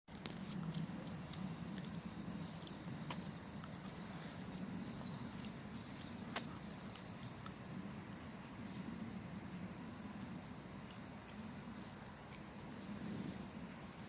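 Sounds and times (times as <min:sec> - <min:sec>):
small birds chirping: 0:00.1 - 0:14.0
steady low hum: 0:00.1 - 0:14.0.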